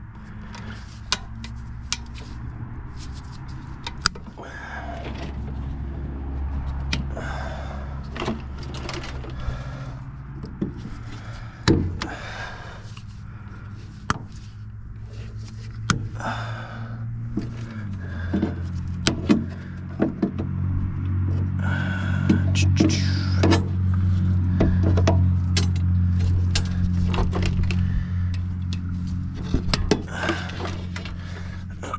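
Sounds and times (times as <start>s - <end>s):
low hum: 0.0s - 31.9s
clicks knocks and scraping rattles: 0.2s - 16.3s, 17.1s - 31.9s.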